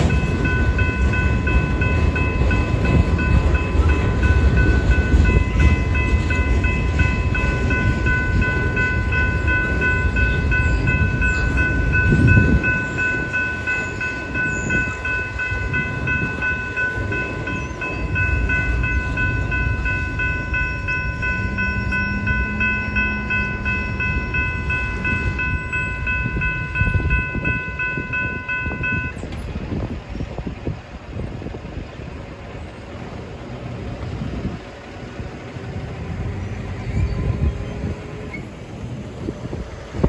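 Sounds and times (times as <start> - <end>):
railroad crossing bell ringing: 0.0 - 40.0
road vehicles driving: 0.0 - 40.0
train wheels rumbling on rail: 0.0 - 40.0.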